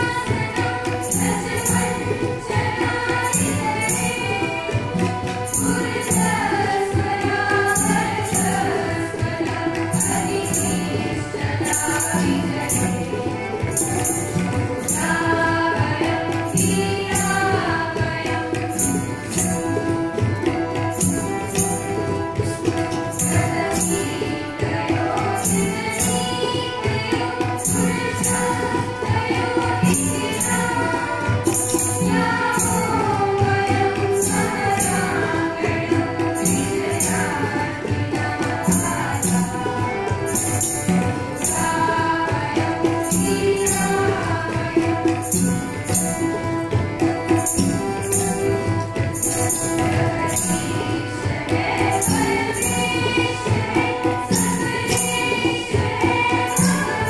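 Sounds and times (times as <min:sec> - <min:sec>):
girls singing in unison: 0:00.0 - 0:57.0
jingling percussion beat: 0:00.0 - 0:57.0.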